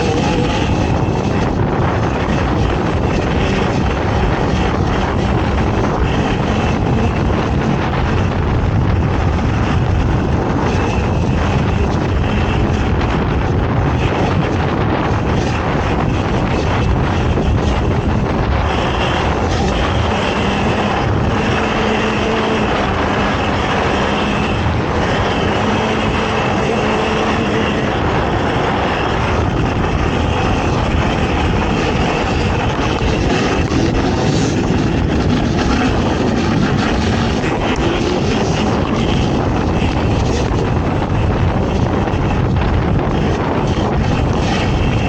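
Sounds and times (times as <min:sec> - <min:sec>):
atv engine running hard: 0:00.0 - 0:45.0
wind buffeting microphone: 0:00.0 - 0:45.0.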